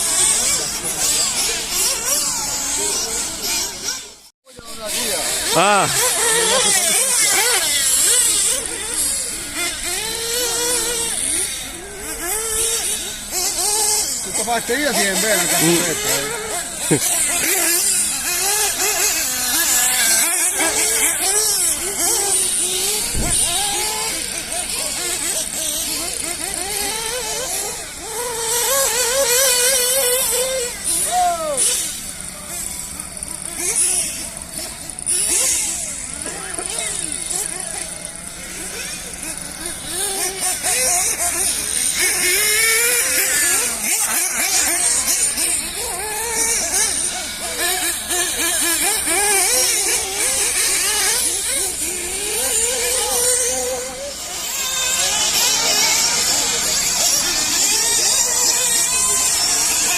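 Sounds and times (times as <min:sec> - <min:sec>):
rc buggy motors buzzing: 0:00.0 - 0:59.9.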